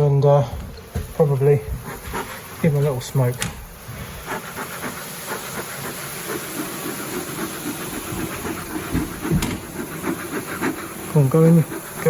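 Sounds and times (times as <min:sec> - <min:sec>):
bee smoker hissing puffs: 0:00.0 - 0:12.0.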